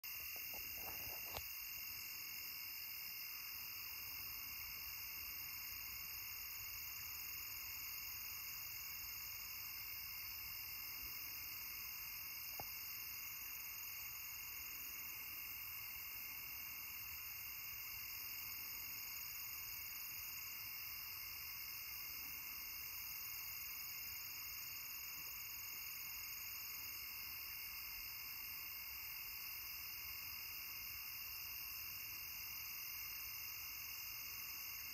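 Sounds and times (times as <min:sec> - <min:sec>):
crickets and insects chirring: 0:00.0 - 0:34.9.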